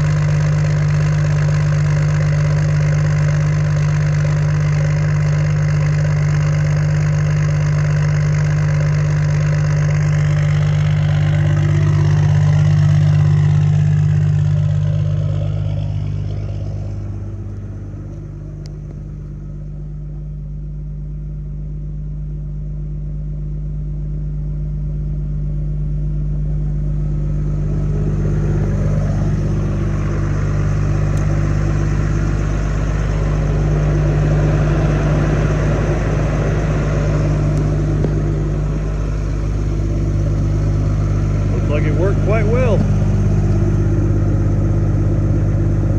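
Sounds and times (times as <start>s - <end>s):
diesel engine droning: 0.0s - 22.0s, 25.1s - 45.9s.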